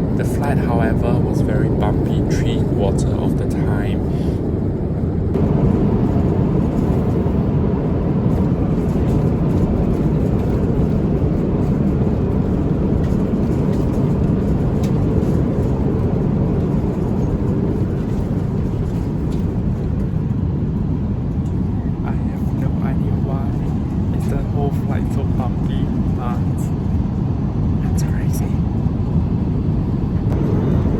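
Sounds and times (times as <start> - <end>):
airplane cabin noise: 0.0 - 30.9.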